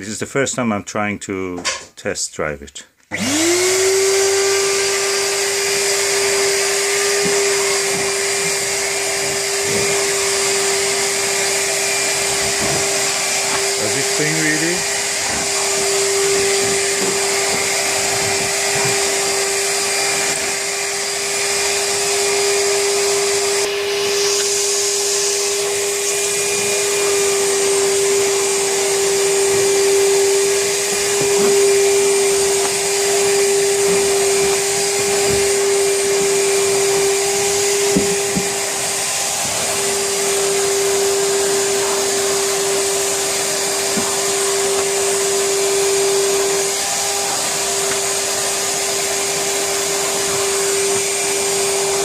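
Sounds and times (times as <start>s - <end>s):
vacuum cleaner motor whine: 3.1s - 52.0s.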